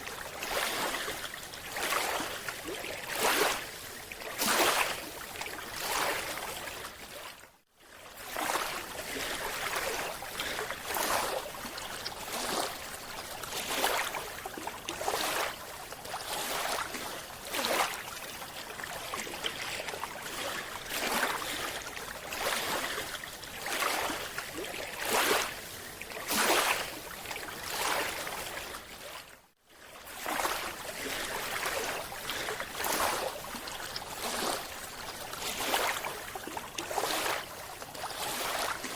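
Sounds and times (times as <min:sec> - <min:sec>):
sea water rushing and sloshing: 0:00.0 - 0:38.9.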